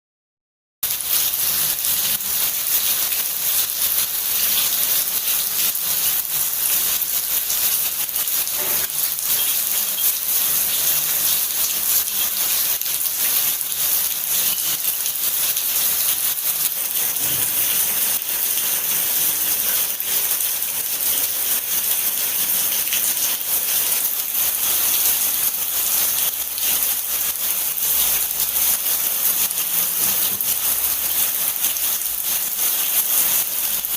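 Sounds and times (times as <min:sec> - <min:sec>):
steady rain falling: 0:00.9 - 0:33.9.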